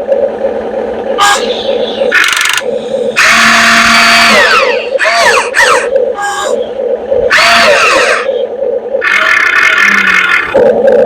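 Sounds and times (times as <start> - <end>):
electric motors whining: 0.0 - 11.0
steady pulsing hum: 0.0 - 11.0.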